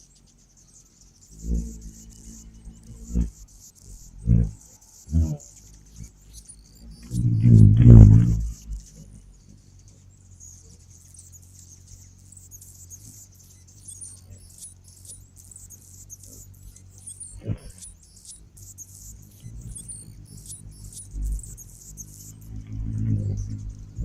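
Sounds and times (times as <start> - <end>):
hummingbirds chipping: 0.0 - 24.0
steady low hum: 0.0 - 24.0.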